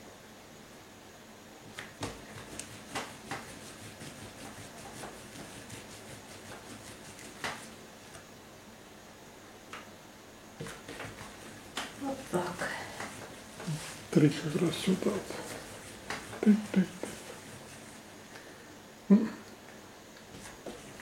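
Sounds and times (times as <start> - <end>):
faint room hiss: 0.0 - 21.0.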